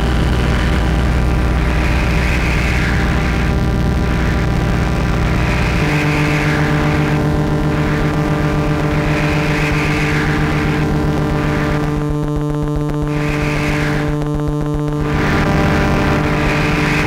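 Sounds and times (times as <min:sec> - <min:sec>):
synthesizer drone: 0:00.0 - 0:17.0.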